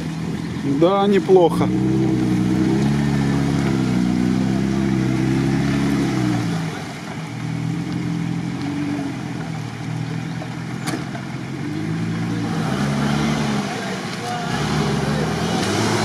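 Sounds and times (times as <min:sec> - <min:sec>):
engine pulling through mud: 0:00.0 - 0:16.0.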